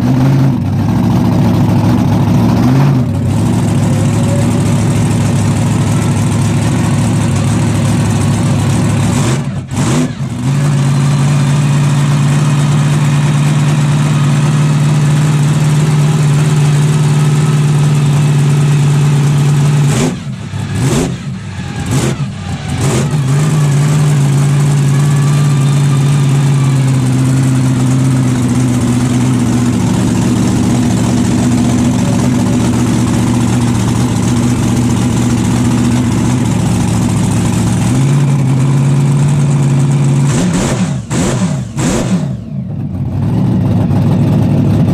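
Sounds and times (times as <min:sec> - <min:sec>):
monster truck engine revving: 0:00.0 - 0:44.9.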